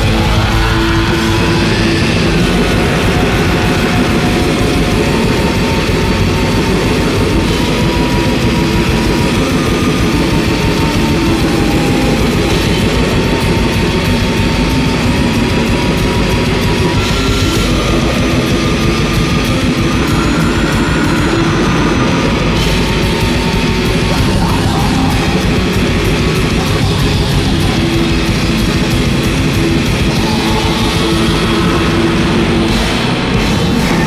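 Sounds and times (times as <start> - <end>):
distorted guitars and drums: 0.0 - 34.0.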